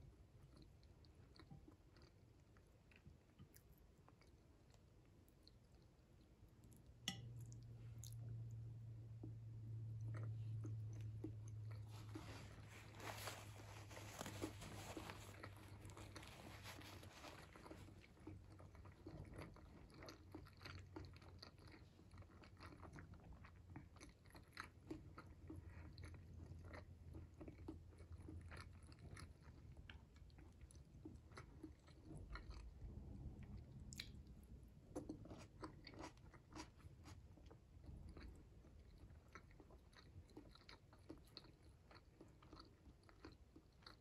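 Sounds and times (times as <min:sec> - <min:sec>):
close chewing and biting: 0:00.1 - 0:44.0.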